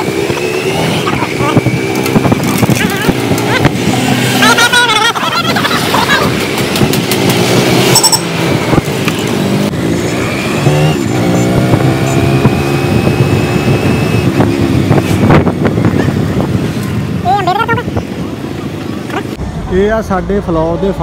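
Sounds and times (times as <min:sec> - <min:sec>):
motorcycle engine running: 0:00.0 - 0:18.2
street traffic: 0:00.0 - 0:21.0.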